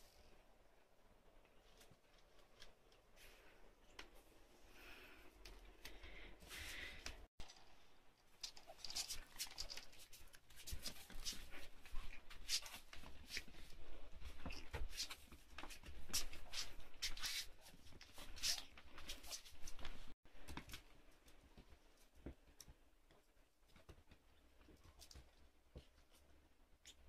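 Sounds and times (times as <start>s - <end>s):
puppy paws clicking and scraping: 1.4s - 3.2s, 7.0s - 27.0s.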